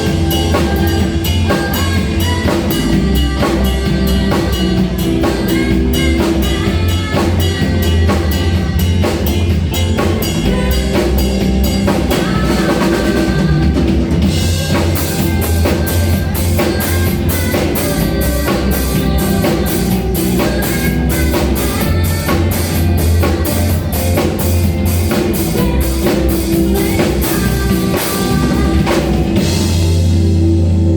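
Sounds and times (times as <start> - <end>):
band music: 0.0 - 30.9
drum kit beat: 0.0 - 30.9.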